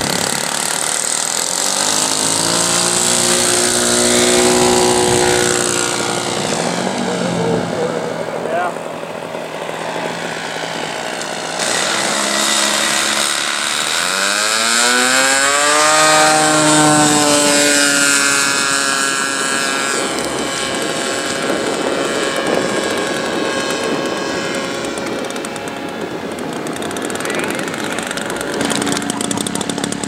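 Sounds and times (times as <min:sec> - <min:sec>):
model airplane engine: 0:00.0 - 0:30.0.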